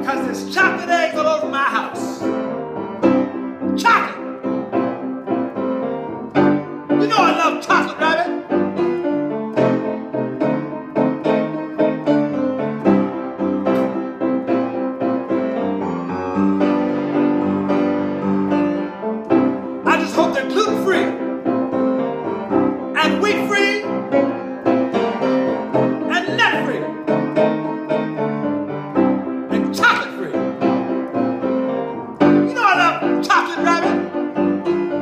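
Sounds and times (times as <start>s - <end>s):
blues piano playing: 0.0s - 35.0s.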